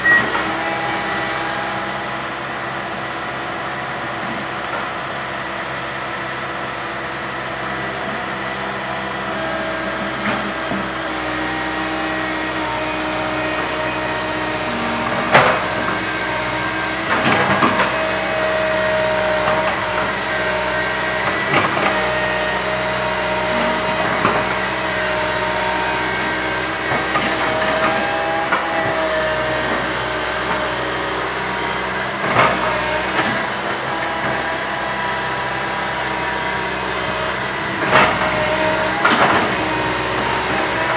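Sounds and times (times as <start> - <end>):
excavator diesel engine running: 0.0 - 40.9
hydraulic whine: 0.0 - 40.9.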